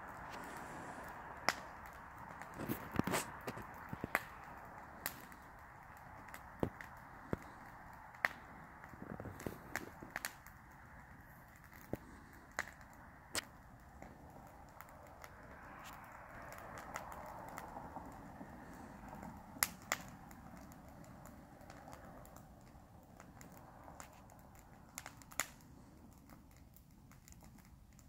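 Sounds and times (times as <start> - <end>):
campfire crackling: 0.0 - 28.0
rush of flames: 0.0 - 28.0
sharp pops and snaps of fire: 0.0 - 28.0.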